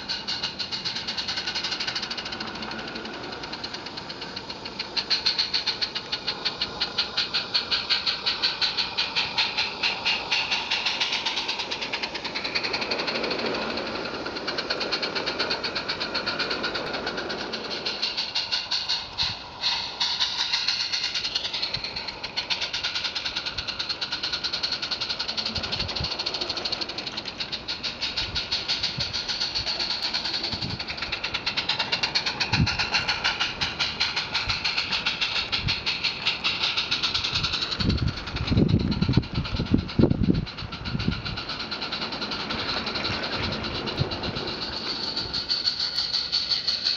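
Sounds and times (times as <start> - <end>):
steam locomotive chuffing: 0.0 - 46.9.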